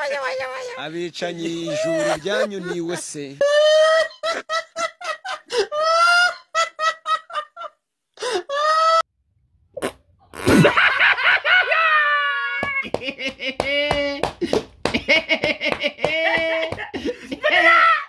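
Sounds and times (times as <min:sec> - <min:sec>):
men laughing hysterically: 0:00.0 - 0:09.0, 0:10.6 - 0:18.0.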